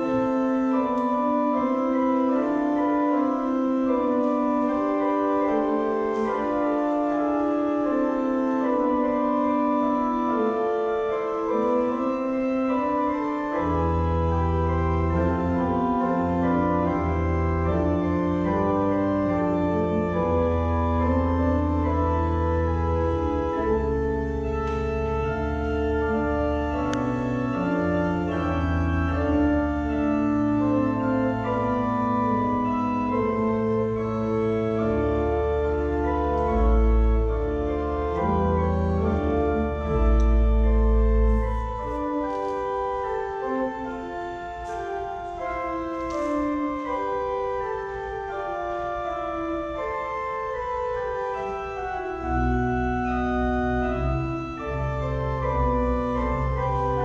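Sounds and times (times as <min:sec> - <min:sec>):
church organ chords: 0:00.0 - 0:57.0
deep organ pedal bass: 0:00.0 - 0:57.0.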